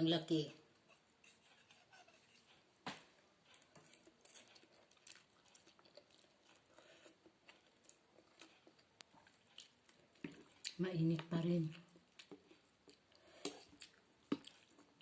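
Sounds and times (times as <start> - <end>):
chewing soft noodle soup: 0.8 - 15.0.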